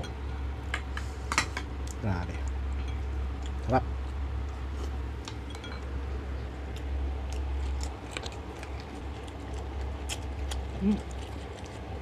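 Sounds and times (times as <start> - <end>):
low steady hum: 0.0 - 12.0
wet chewing and mouth clicks: 1.8 - 12.0.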